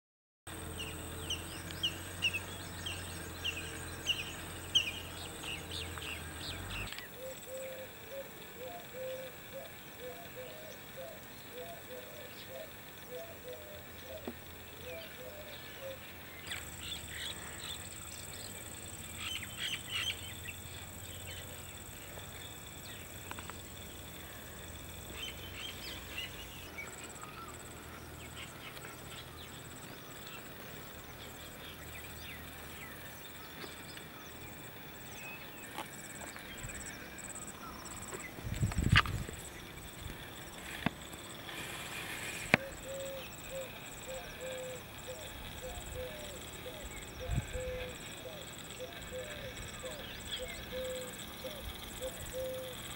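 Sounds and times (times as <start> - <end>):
low repeated bird notes: 0.5 - 41.6, 42.5 - 52.9
birds chirping: 0.5 - 52.9.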